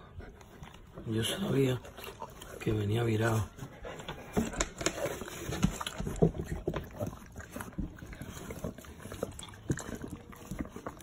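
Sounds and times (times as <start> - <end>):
wet handling sounds: 0.4 - 11.0.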